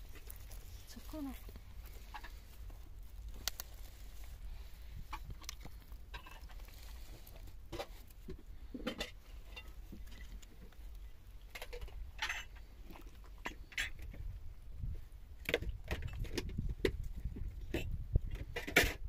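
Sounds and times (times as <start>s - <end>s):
low steady rumble: 0.0s - 18.5s
clicks and rustles of sticks and twine: 0.0s - 19.0s.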